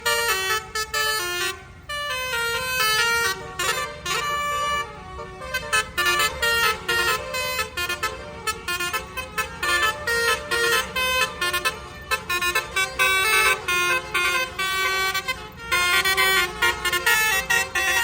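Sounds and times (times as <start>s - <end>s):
multi-tone bus horn melody: 0.0s - 18.0s.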